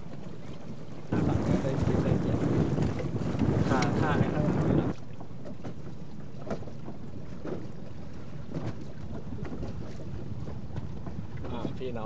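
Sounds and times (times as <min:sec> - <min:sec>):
water noise on open sea: 0:00.0 - 0:12.0
wind: 0:00.0 - 0:12.0.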